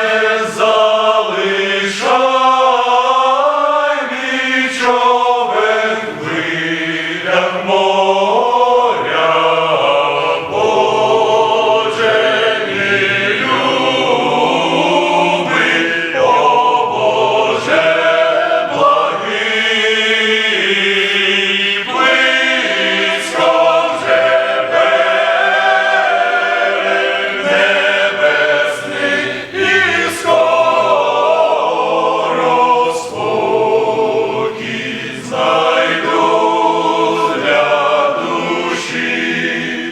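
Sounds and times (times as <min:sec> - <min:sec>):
men's choir singing a hymn: 0:00.0 - 0:39.9.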